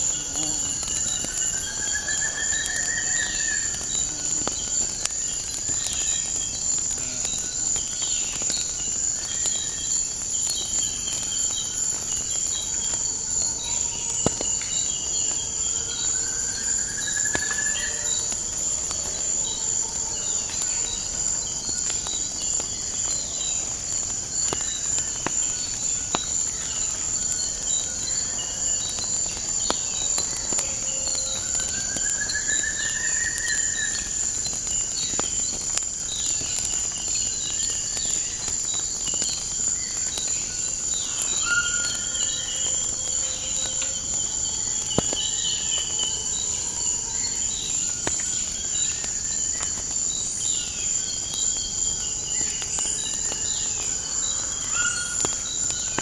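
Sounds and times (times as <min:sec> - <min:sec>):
fireplace crackling: 0:00.0 - 0:56.0
insect chorus: 0:00.0 - 0:56.0.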